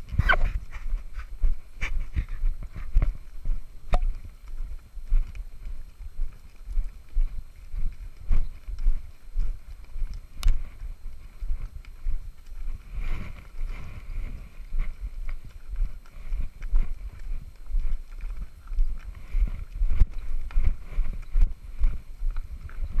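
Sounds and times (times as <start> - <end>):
footsteps on gravel path: 0.0 - 23.0
hooves clopping on rock: 0.0 - 23.0.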